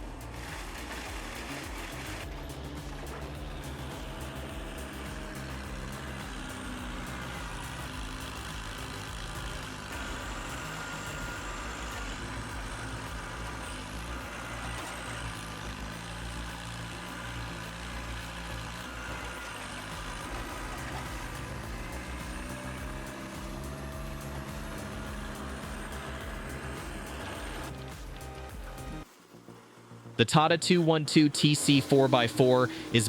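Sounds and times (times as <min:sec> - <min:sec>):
diesel engine running: 0:00.0 - 0:29.1, 0:30.2 - 0:33.0.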